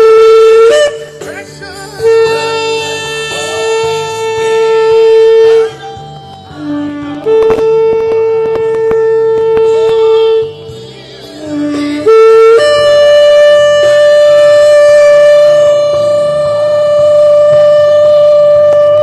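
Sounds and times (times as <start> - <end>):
ram's horn blasts: 0.0 - 19.0.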